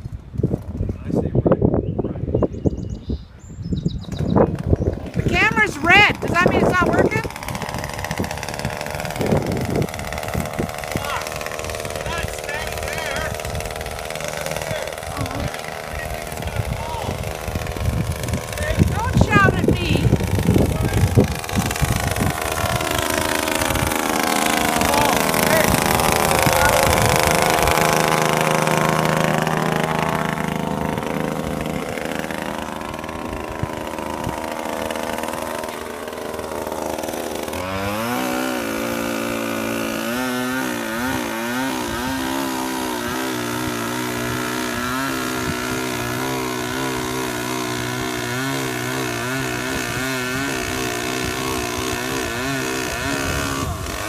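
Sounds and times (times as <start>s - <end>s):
chainsaw cutting into tree: 0.0s - 1.0s, 4.0s - 54.0s.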